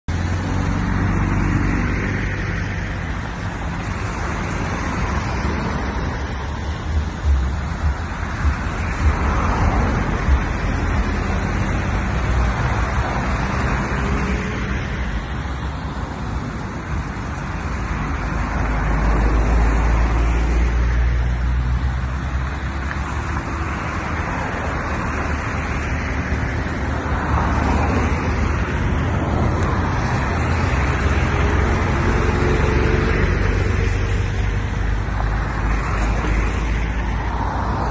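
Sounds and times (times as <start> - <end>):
low engine and road rumble: 0.0 - 37.9.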